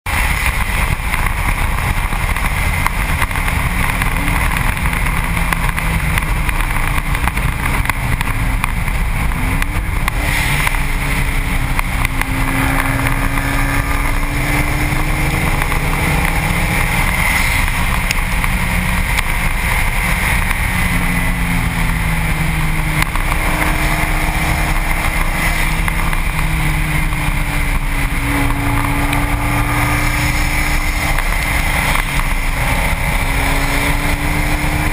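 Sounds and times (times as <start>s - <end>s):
car engine accelerating: 0.0s - 34.9s
wind and road roar: 0.0s - 34.9s.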